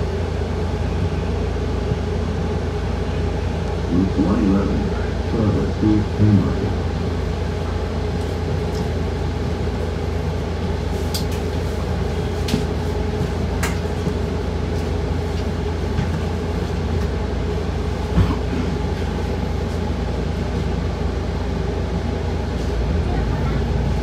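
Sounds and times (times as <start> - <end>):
bus drivetrain and road drone: 0.0 - 24.0.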